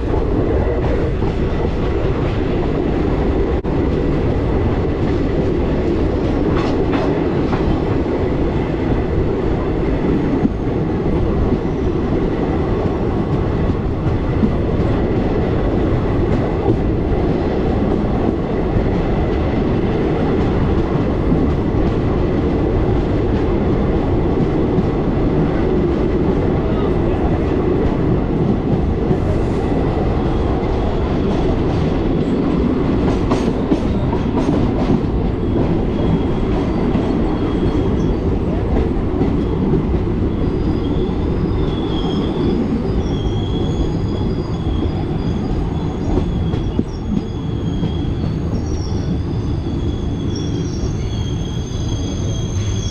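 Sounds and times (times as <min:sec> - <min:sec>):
train running: 0:00.0 - 0:52.9.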